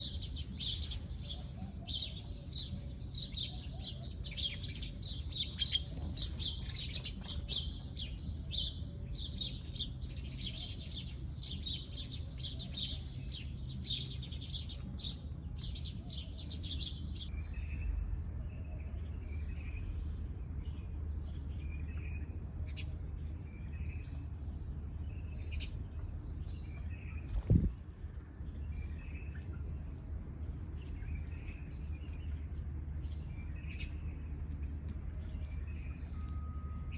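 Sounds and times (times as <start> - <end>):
low background rumble: 0.0 - 36.7
sparrows chirping: 0.0 - 36.9.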